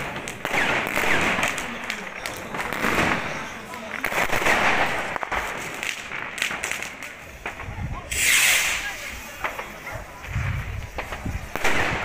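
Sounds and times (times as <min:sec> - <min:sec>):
fireworks bangs and crackles: 0:00.0 - 0:12.0
hissing firework burst: 0:00.0 - 0:12.0.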